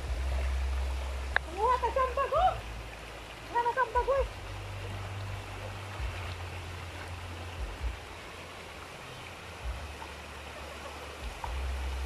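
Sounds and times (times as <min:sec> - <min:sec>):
creek water running: 0:00.0 - 0:12.0
low uneven rumble: 0:00.0 - 0:12.0.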